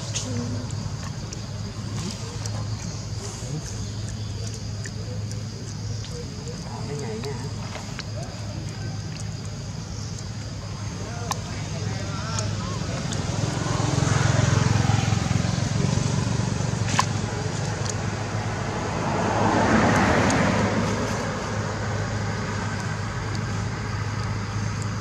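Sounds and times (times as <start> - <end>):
traffic hum: 0.0 - 25.0
vehicle passing: 0.0 - 25.0.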